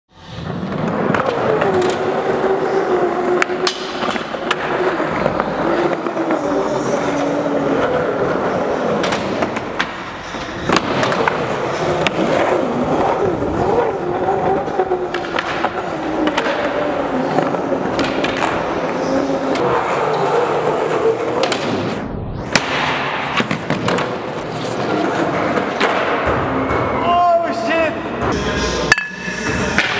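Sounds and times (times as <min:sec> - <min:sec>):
skateboard wheels rolling on concrete: 0:00.1 - 0:22.0, 0:22.8 - 0:26.2.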